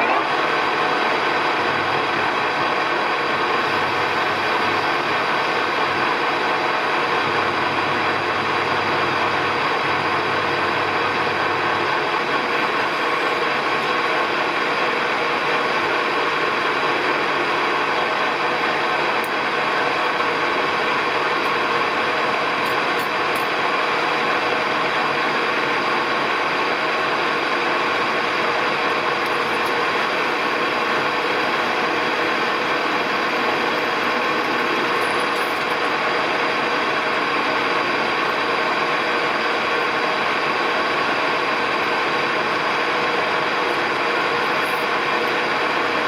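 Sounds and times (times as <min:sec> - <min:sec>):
lathe running with whine: 0:00.0 - 0:46.0.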